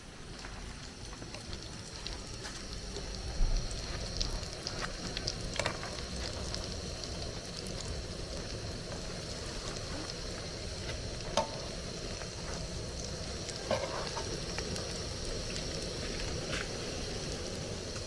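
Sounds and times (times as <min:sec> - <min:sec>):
fire crackling: 0:00.0 - 0:18.0
food sizzling in hot oil: 0:00.0 - 0:18.0.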